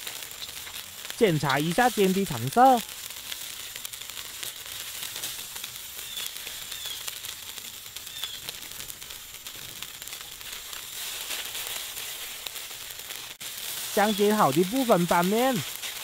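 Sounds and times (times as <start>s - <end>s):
noodles sizzling in oil: 0.0s - 16.0s.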